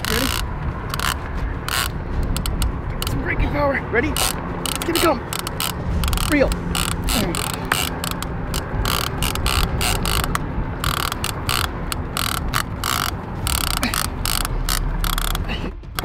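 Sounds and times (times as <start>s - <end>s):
fishing reel ratcheting clatter: 0.0s - 3.2s, 4.2s - 16.0s.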